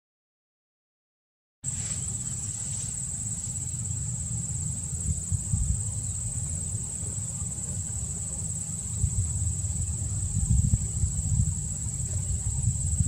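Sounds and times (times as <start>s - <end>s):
insect chorus trilling: 1.7s - 13.0s
low rumble: 2.2s - 13.0s.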